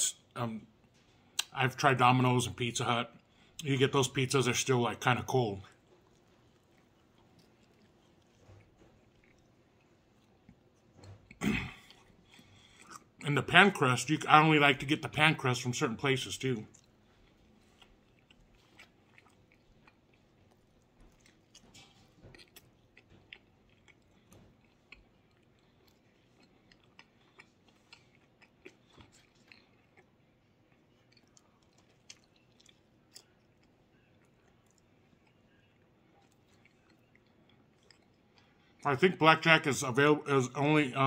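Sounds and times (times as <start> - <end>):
faint chewing: 3.0 - 15.0, 16.1 - 38.9.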